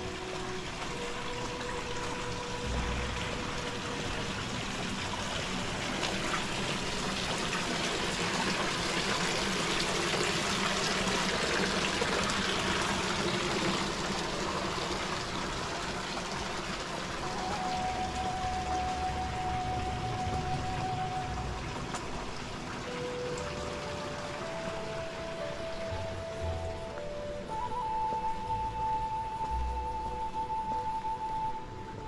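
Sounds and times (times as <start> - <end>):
fountain water trickling and splashing: 0.0 - 32.0.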